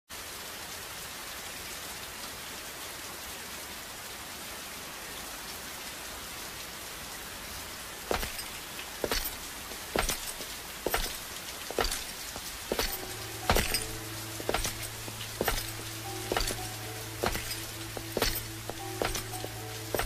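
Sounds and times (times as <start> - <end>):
heavy rain falling: 0.1 - 20.0.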